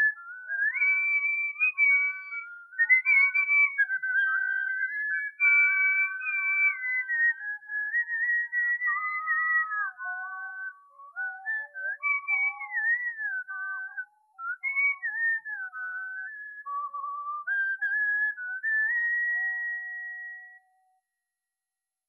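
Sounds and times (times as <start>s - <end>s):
person whistling a melody: 0.0s - 21.0s.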